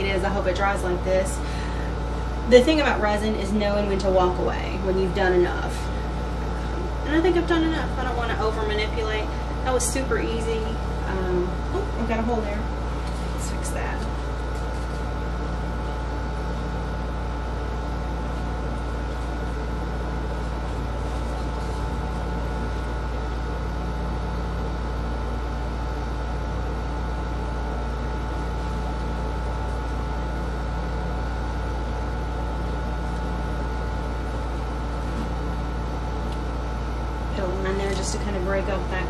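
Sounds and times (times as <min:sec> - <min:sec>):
machine hum with low drone: 0:00.0 - 0:39.0.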